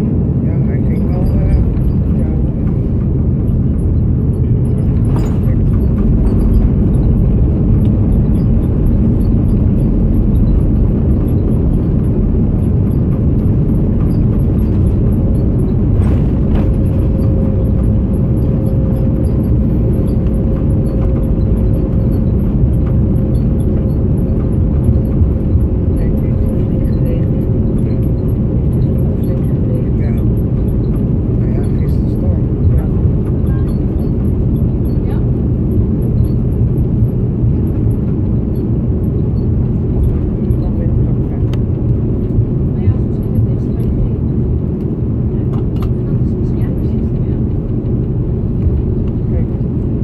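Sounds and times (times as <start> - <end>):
airliner cabin rumble: 0.0 - 50.0
mid-pitched hum: 0.0 - 50.0.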